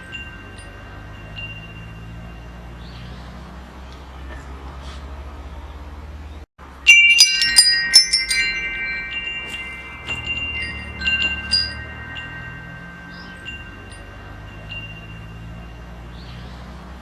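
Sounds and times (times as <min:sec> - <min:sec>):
metal wind chimes jangling: 0:00.0 - 0:03.6, 0:06.6 - 0:17.0.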